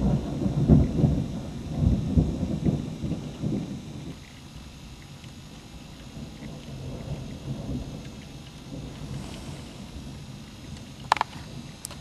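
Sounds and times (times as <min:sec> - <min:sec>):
low rolling thunder: 0:00.0 - 0:04.2, 0:06.2 - 0:11.7
rain: 0:00.0 - 0:12.0.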